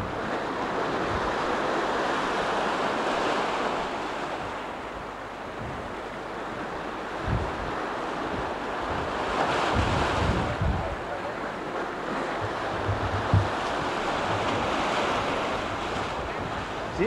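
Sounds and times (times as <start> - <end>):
waves breaking over rocks: 0.0 - 17.0
wind buffeting microphone: 0.0 - 17.0.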